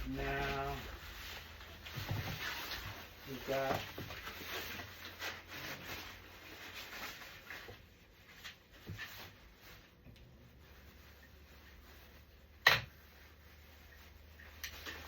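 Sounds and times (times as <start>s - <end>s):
rubbing and rustling of parts: 0.0s - 15.0s.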